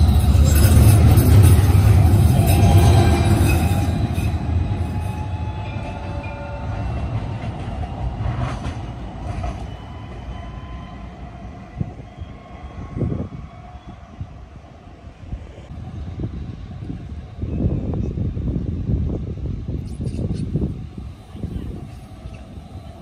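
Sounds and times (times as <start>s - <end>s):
tram rumbling past: 0.0s - 23.0s.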